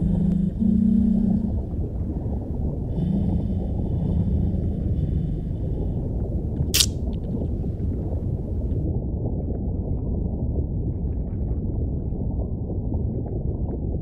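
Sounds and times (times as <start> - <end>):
muffled low rumble: 0.0 - 14.0.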